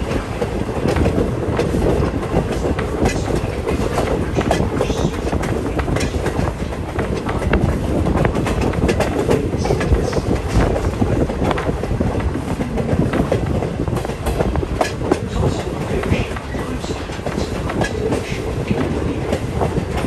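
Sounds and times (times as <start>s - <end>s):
rattles and clicks from car: 0.0s - 20.0s
train coach rumble: 0.0s - 20.0s
wheels clattering over track: 0.0s - 20.0s.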